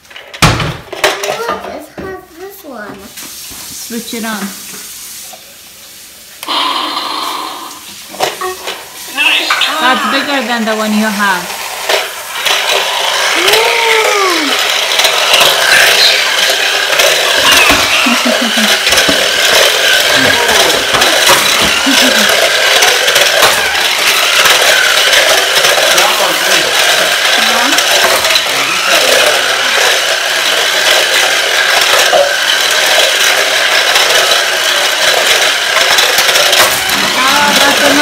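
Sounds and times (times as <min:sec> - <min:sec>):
plastic wheels rattling on tile: 0:00.0 - 0:02.9, 0:07.8 - 0:38.0
toy car motor whirring: 0:00.1 - 0:02.9, 0:06.4 - 0:38.0.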